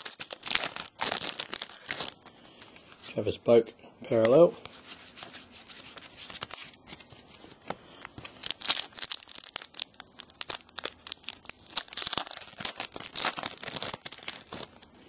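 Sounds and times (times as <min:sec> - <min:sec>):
foil wrapper crinkling and tearing: 0:00.0 - 0:02.9, 0:04.2 - 0:15.0.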